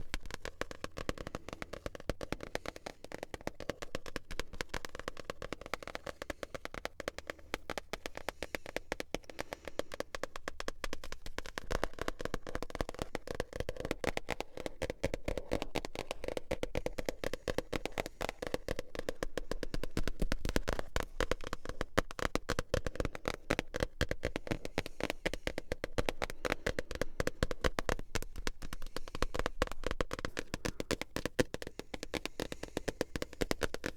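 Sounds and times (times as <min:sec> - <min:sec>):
fast tapping on books: 0:00.0 - 0:33.9.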